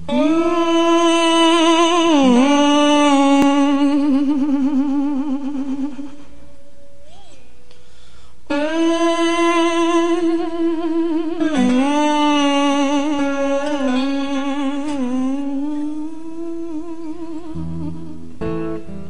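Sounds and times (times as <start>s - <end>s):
person singing wordless notes: 0.0s - 7.5s, 8.5s - 18.5s.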